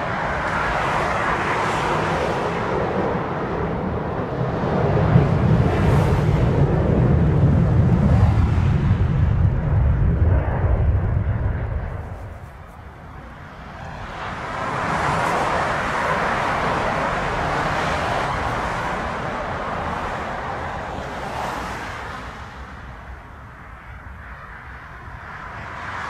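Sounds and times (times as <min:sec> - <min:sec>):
broad jet engine roar: 0:00.0 - 0:26.0
jet engine rumble: 0:00.0 - 0:26.0.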